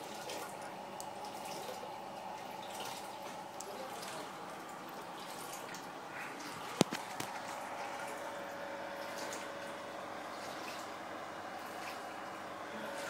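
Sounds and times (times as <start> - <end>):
light rig fan hum: 0.0 - 13.0.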